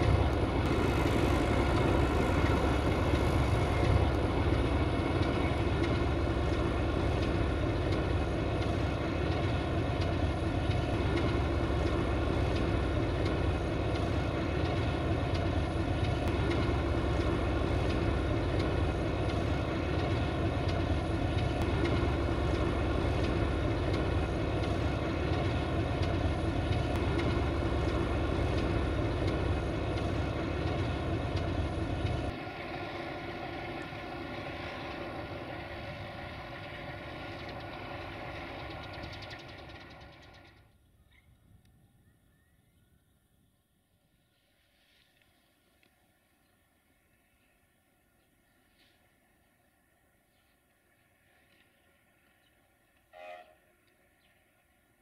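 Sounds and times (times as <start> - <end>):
diesel locomotive engine idling: 0.0 - 40.9, 44.0 - 55.0.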